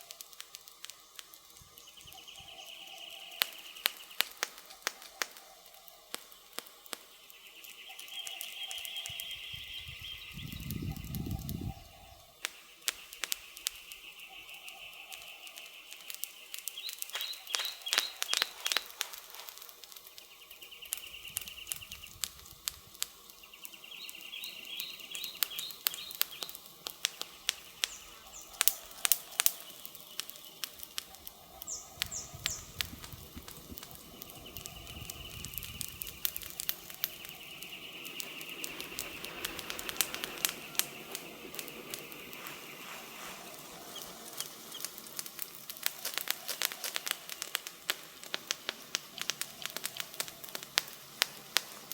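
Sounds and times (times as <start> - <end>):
birds chirping: 0.0 - 51.9
campfire crackling and popping: 0.0 - 51.9.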